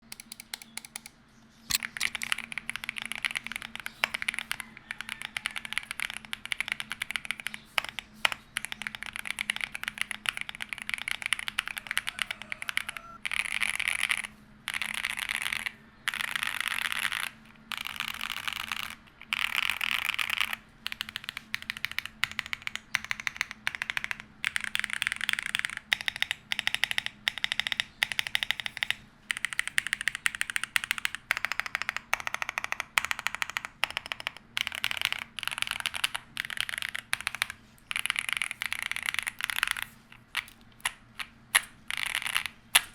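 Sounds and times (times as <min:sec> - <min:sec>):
fast keyboard typing: 0:00.0 - 0:01.1, 0:01.7 - 0:42.9.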